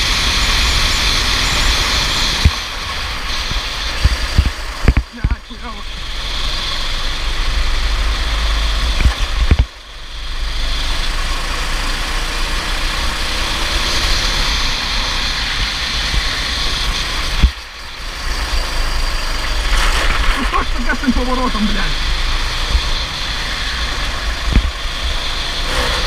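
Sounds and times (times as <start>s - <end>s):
racing kart engine: 0.0s - 26.0s.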